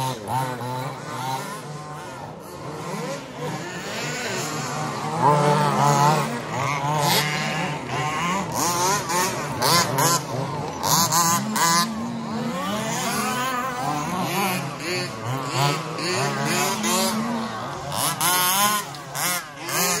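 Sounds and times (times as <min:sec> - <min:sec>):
rc car motors whining: 0:00.0 - 0:20.0.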